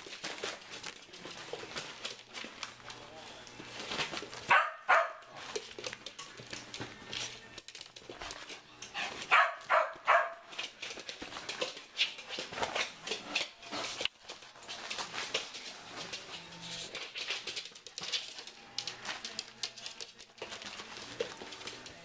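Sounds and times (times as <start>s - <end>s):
claws clicking on laminate floor: 0.0s - 22.0s.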